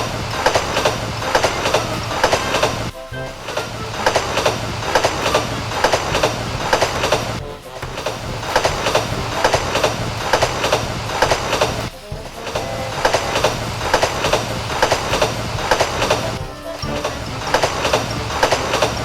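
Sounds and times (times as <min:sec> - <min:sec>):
toy train motor whir: 0:00.0 - 0:19.0
wheels clicking over rail joints: 0:00.0 - 0:19.0.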